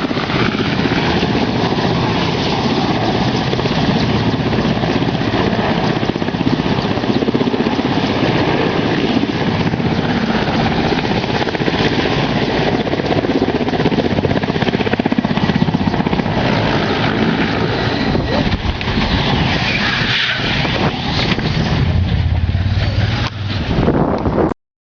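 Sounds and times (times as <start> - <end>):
helicopter rotor chopping: 0.0 - 24.5.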